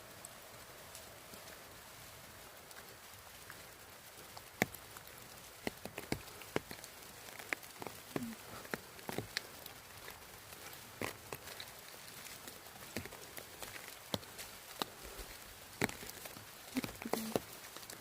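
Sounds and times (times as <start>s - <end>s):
light rain patter: 0.0s - 18.0s
raindrops tapping on umbrella: 0.1s - 18.0s.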